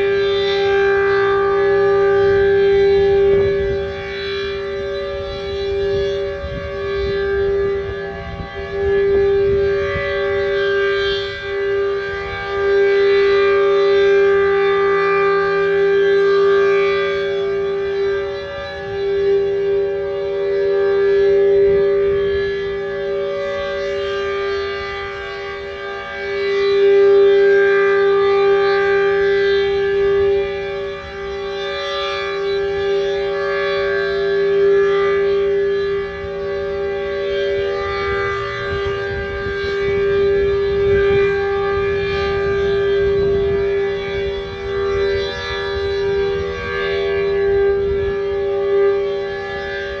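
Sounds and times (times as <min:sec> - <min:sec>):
two-tone civil defense siren: 0:00.0 - 0:50.0.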